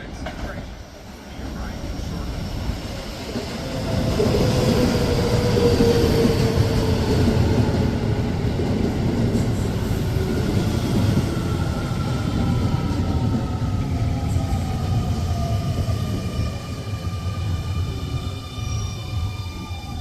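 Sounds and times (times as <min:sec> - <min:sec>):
electric train rumbling: 0:00.0 - 0:20.0.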